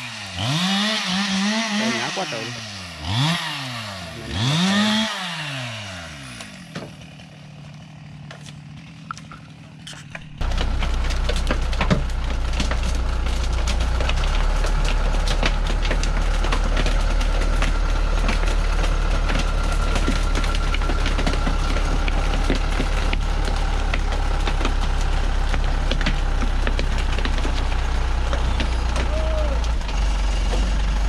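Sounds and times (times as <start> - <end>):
branches snapping under tyres: 0.0 - 31.0
truck diesel engine running: 0.0 - 31.0.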